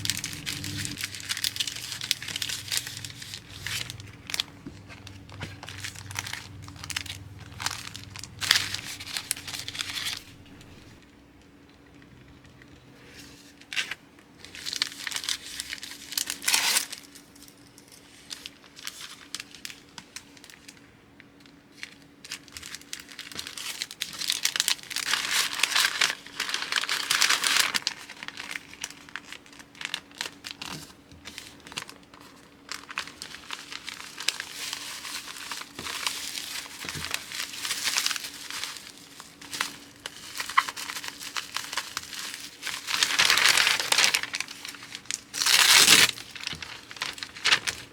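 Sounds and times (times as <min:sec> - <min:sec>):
packaging material crinkling: 0:00.0 - 0:11.0, 0:13.6 - 0:17.1, 0:21.7 - 0:47.9.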